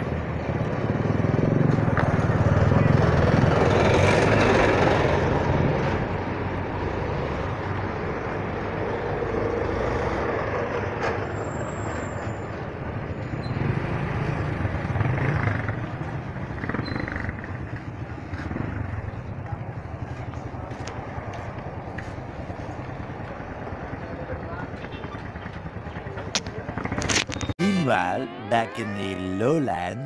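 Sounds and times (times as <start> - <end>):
street traffic: 0.0 - 30.0.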